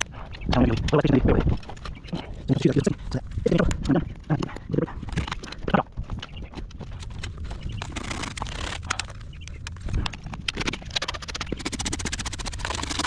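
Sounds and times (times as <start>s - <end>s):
hoof scraping with sharp clicks: 0.0s - 13.0s.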